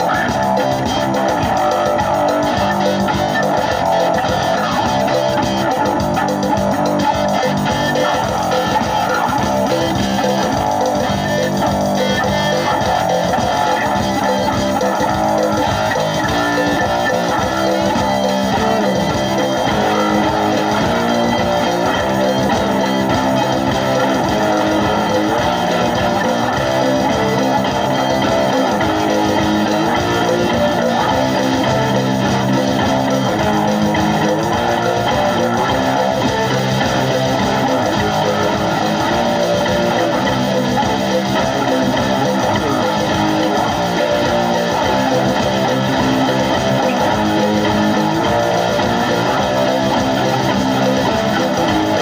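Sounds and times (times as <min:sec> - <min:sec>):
rock guitar music with bass: 0:00.0 - 0:52.0.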